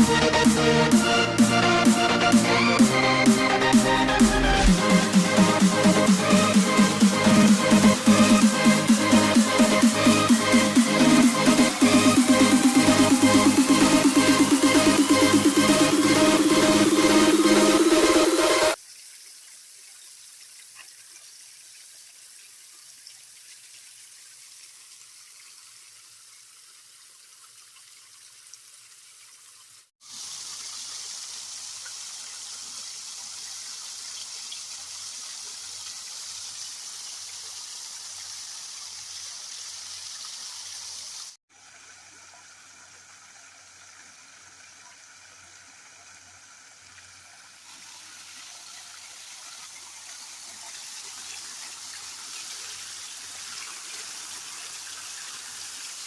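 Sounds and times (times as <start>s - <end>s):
water running and splashing: 4.1s - 56.0s.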